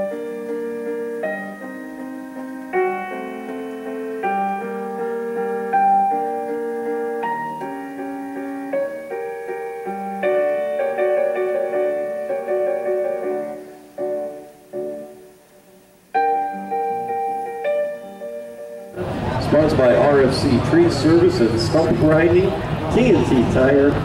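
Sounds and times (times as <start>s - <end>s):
gentle piano melody: 0.0s - 22.8s.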